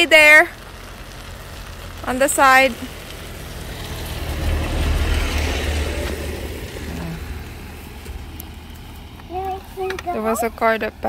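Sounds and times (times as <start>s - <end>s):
car driving past: 0.6s - 10.9s.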